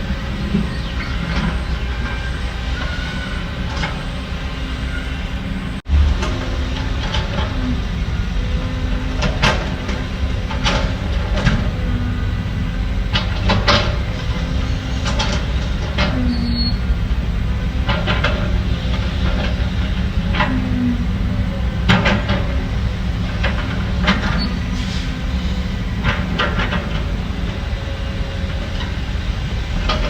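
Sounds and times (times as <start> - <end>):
diesel machinery running: 0.0 - 30.0.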